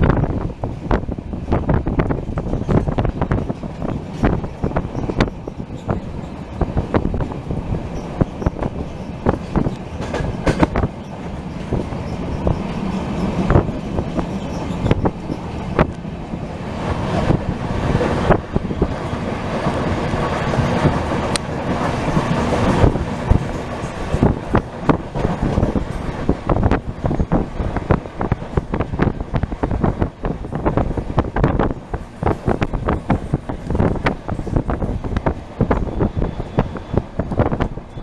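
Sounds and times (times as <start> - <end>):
train wheels rumbling on rail: 0.0 - 38.0
wheels clicking over rail joints: 1.6 - 38.0.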